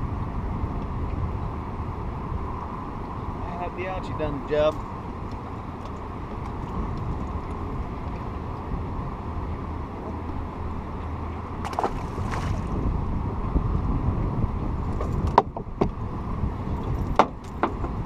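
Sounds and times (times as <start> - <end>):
wind noise: 0.0 - 18.0
water noise: 0.6 - 18.0.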